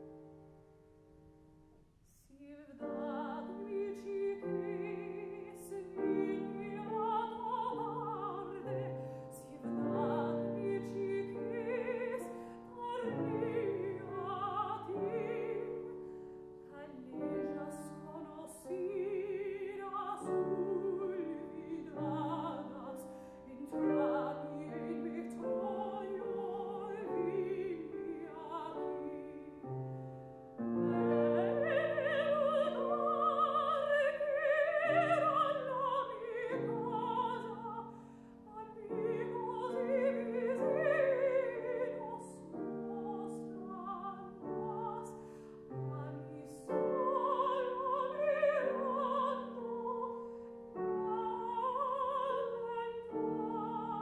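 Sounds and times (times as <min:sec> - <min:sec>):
grand piano: 0:00.0 - 0:54.0
soprano singing with vibrato: 0:02.1 - 0:29.8, 0:30.6 - 0:54.0.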